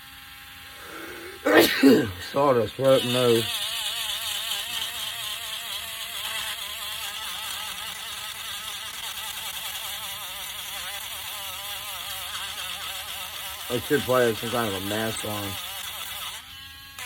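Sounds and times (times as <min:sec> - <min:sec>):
electric sander on wood: 0:00.0 - 0:17.0.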